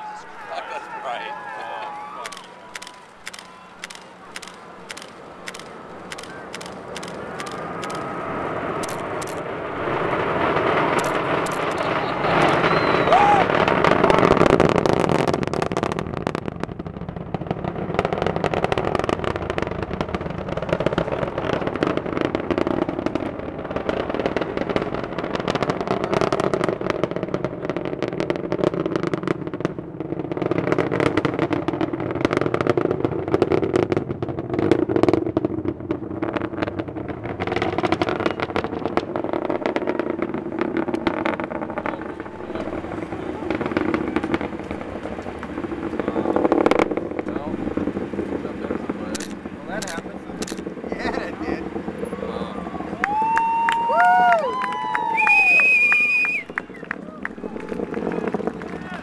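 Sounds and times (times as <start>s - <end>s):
rocket engine rumble with crackling: 0.0s - 59.0s.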